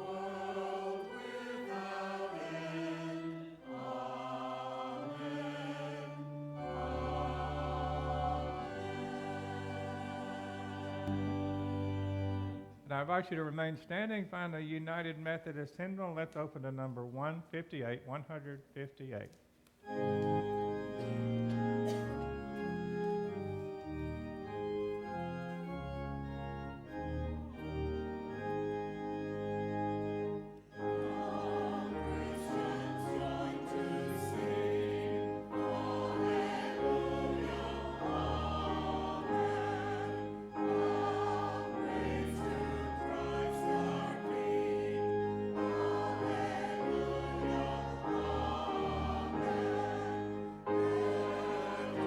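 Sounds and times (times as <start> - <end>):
congregation singing a hymn: 0.0 - 15.6, 19.8 - 52.0
organ playing: 0.0 - 19.0, 19.8 - 52.0.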